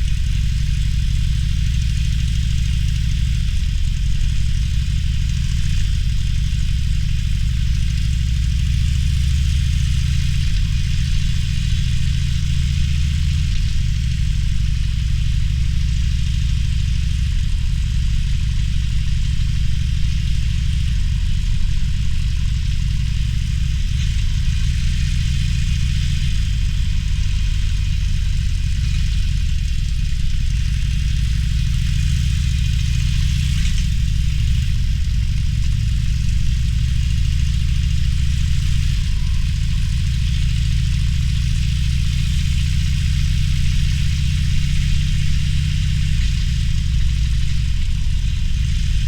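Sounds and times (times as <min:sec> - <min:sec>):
motorcycle engine running: 0:00.0 - 0:49.0
wind and road noise hiss: 0:00.0 - 0:49.0.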